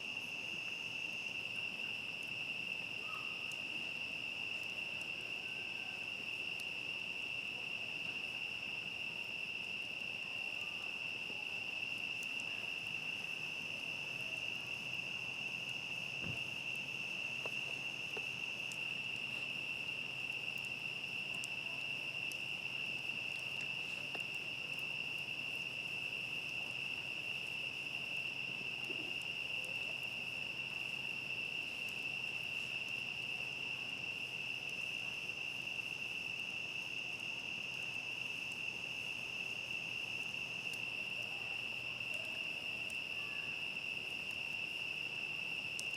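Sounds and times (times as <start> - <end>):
crickets trilling: 0.0 - 45.9
faint campfire crackles: 0.0 - 45.9.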